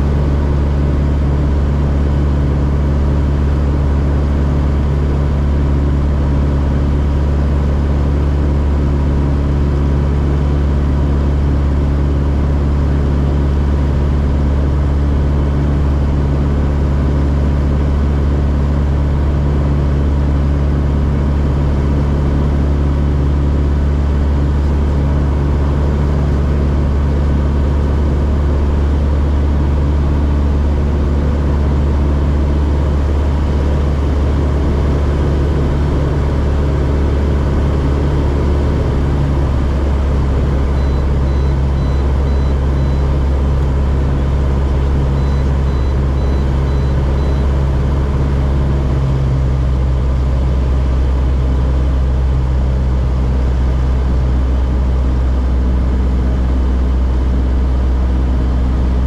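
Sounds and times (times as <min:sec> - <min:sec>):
aircraft engine and propeller droning: 0:00.0 - 0:59.0.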